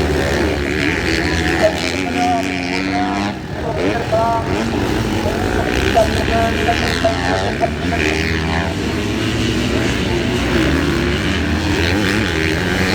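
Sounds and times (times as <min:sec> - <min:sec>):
motocross bike engines revving: 0:00.0 - 0:12.9.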